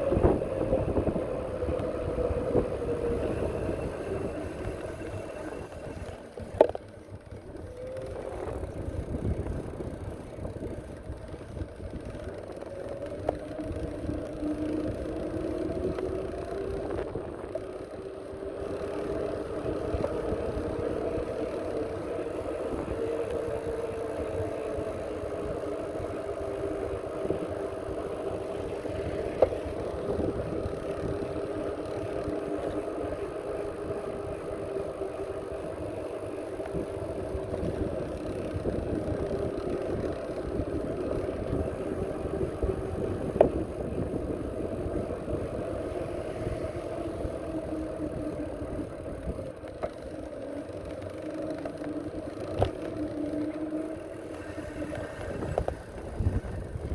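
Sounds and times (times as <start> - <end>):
wind rumble on microphone: 0.0 - 49.6, 52.0 - 56.9
bicycle hum: 0.0 - 56.9.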